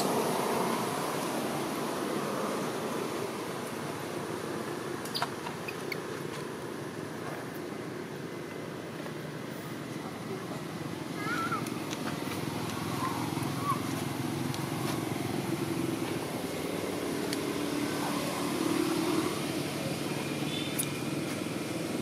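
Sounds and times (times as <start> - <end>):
traffic engines droning: 0.0 - 22.0.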